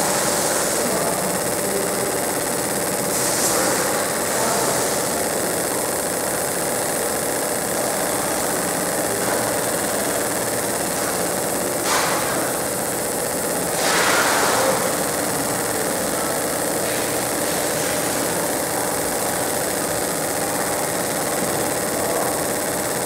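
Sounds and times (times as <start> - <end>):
laser engraving buzzing hiss: 0.0 - 23.0
steady machine hum: 0.0 - 23.0.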